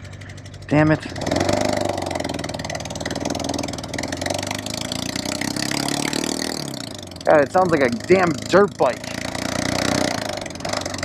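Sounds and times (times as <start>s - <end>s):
rough uneven motorcycle engine: 0.0s - 11.0s.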